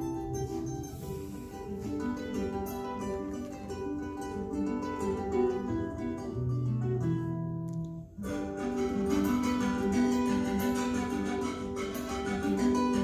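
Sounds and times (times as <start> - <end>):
folk ensemble with plucked strings: 0.0 - 13.0.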